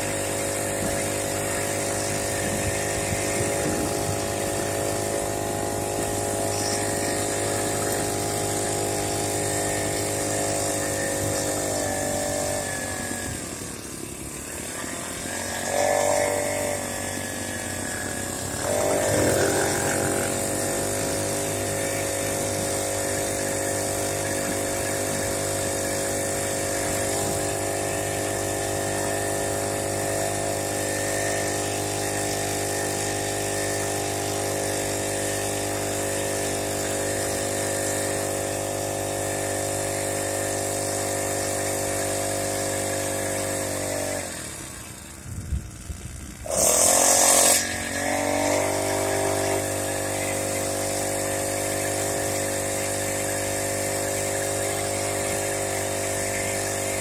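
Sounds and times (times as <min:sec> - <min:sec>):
small petrol engine running: 0:00.0 - 0:57.0.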